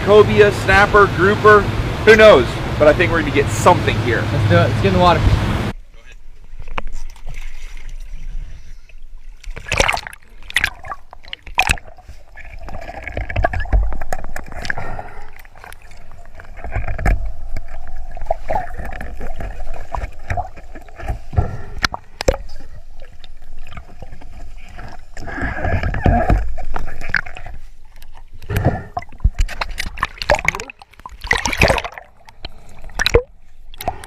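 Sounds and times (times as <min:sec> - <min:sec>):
water splashing and gurgling: 0:06.4 - 0:34.0.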